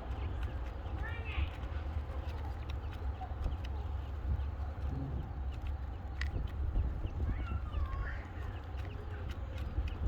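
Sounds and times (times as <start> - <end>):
quail pecking and scratching: 0.0 - 10.0.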